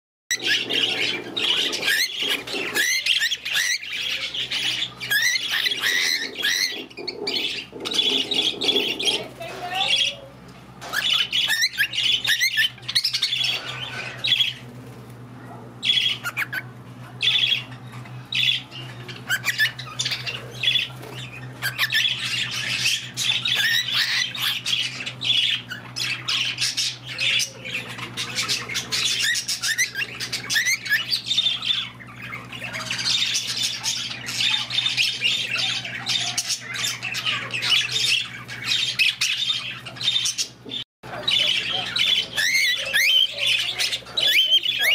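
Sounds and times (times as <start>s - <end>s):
cockatiel whistling and chattering: 0.3s - 14.6s, 15.8s - 44.9s
parrots chattering: 0.3s - 44.9s.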